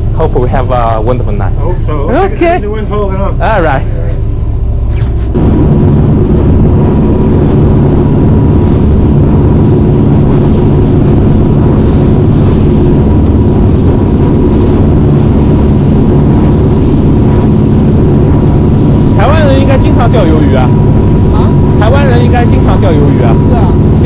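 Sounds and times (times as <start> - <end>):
boat engine drone: 0.0 - 24.0
water rushing along hull: 0.0 - 24.0.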